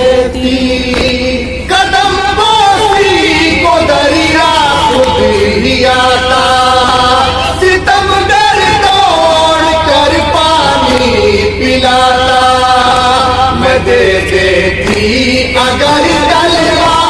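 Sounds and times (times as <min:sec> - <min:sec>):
men chanting into a microphone: 0:00.0 - 0:17.0
steady low hum: 0:00.0 - 0:17.0.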